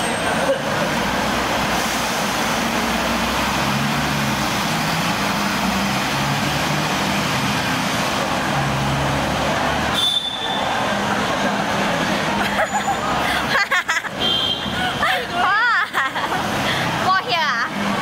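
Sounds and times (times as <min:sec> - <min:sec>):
roar of passing traffic: 0:00.0 - 0:18.0.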